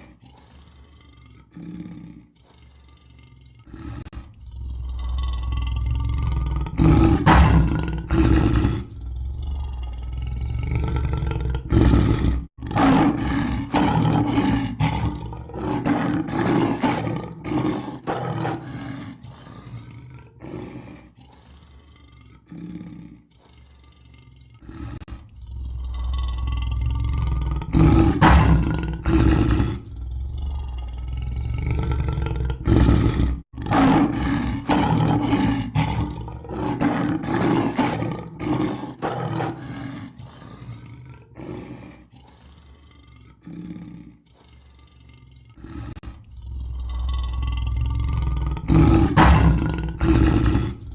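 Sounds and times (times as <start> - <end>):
lion roaring: 0.0 - 50.9.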